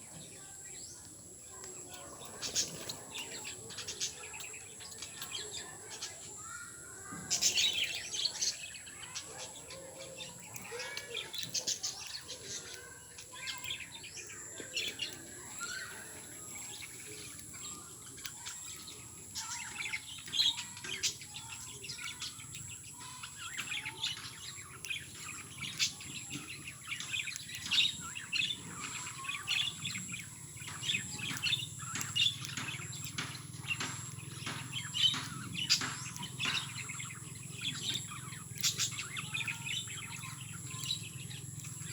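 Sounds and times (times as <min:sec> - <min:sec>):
lovebirds chirping: 0:00.0 - 0:41.9.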